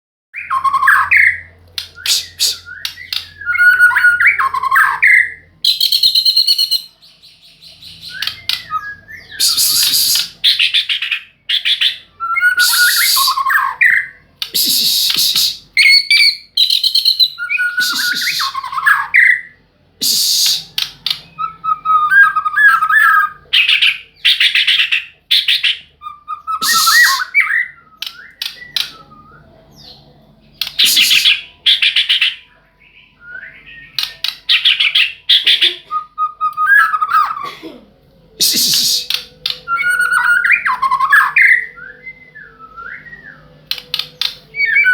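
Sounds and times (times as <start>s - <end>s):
songbird singing: 0.4s - 37.4s, 38.2s - 44.9s.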